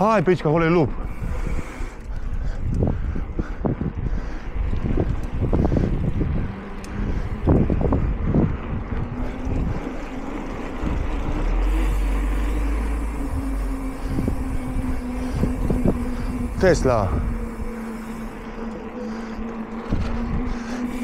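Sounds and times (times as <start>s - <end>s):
motor vehicle hum: 0.0s - 21.0s
wind buffeting microphone: 0.0s - 21.0s.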